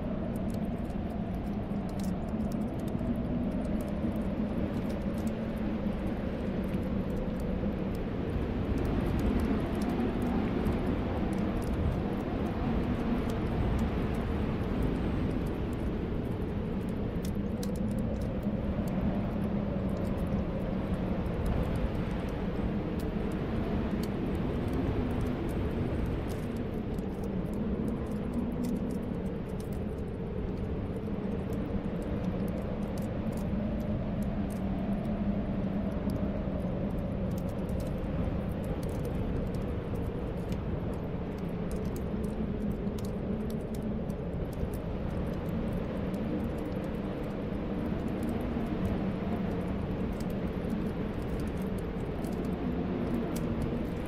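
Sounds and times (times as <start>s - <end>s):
low moaning whistle of wind: 0.0s - 54.0s
wind blowing: 0.0s - 54.0s
wood fire crackling: 0.0s - 54.0s.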